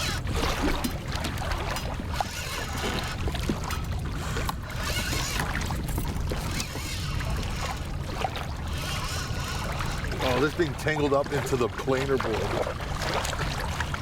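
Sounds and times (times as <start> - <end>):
water lapping against hull: 0.0 - 14.0.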